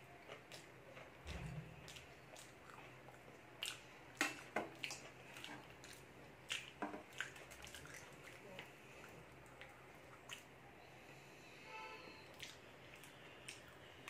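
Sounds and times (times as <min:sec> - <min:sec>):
chewing with mouth clicks: 0:00.0 - 0:10.6, 0:12.3 - 0:14.0.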